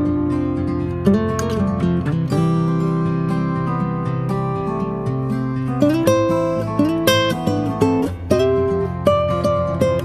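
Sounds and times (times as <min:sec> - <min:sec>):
slow plucked string music: 0:00.0 - 0:10.0.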